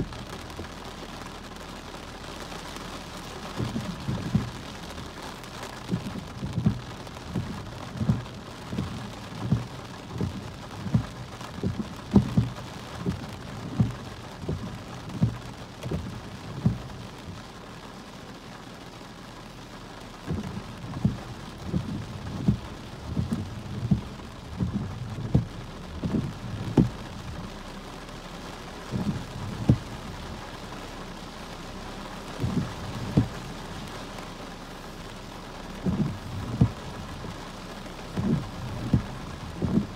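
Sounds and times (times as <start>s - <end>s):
raindrops on car windshield: 0.0s - 39.9s.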